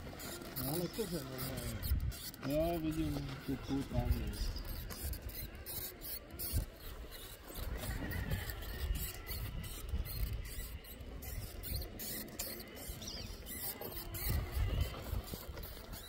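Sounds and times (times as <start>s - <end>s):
electric motor and gear whine: 0.0s - 16.0s
tyres clicking and scraping on stone: 0.0s - 16.0s.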